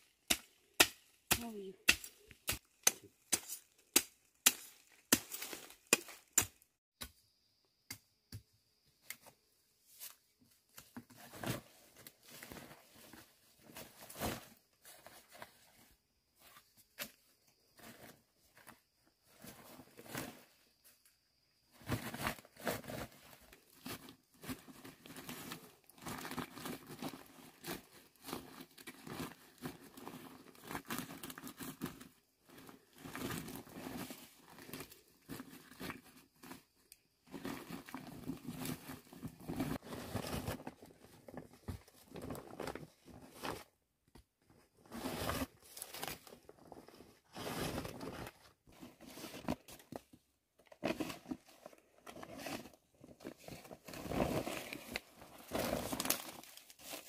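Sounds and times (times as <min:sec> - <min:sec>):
rustling and crinkling: 0:09.1 - 0:57.0.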